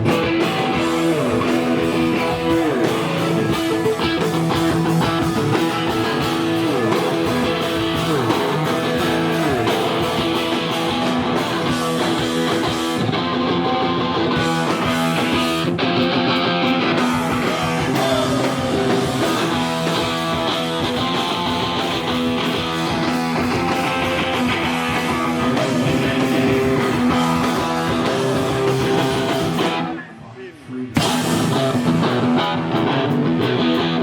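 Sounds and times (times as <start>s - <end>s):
live band playing: 0.0s - 30.0s, 30.9s - 34.0s
strummed electric guitar: 0.0s - 30.3s, 30.9s - 34.0s.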